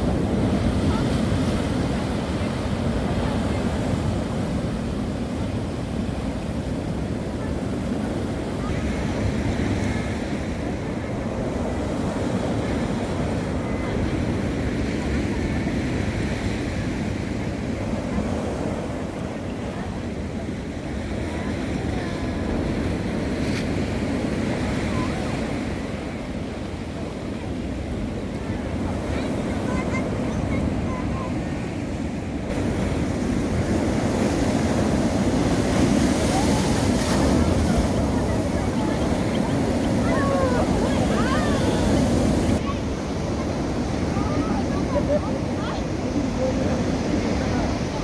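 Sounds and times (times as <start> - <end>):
surf breaking on a beach: 0.0 - 48.0
wind rumbling on microphone: 0.0 - 48.0.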